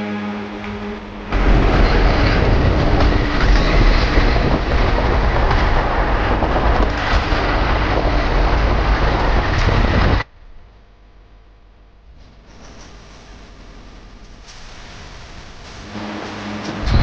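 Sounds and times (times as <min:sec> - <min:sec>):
rattling rumble: 0:00.0 - 0:17.0.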